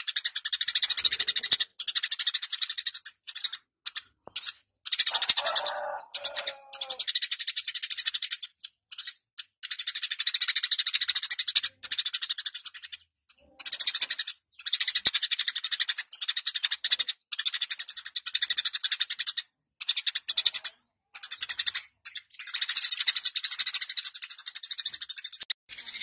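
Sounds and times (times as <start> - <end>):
sparrow chattering: 0.0 - 26.0.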